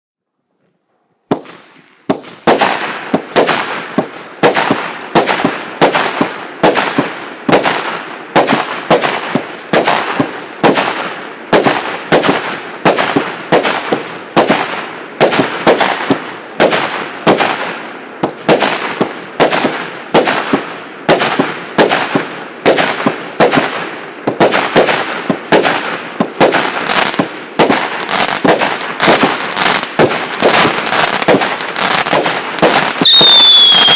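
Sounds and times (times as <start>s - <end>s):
fireworks cake firing: 1.3s - 33.9s.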